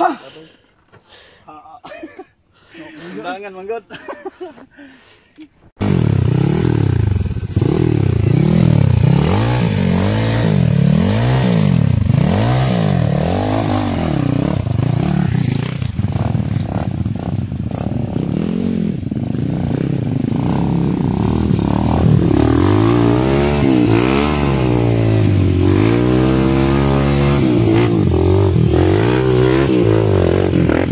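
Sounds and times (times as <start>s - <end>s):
dirt bike engine revving: 5.8s - 30.9s.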